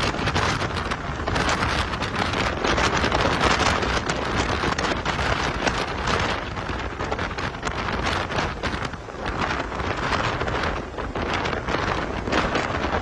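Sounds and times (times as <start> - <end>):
passing highway traffic: 0.0 - 13.0
wind buffeting microphone: 0.0 - 13.0.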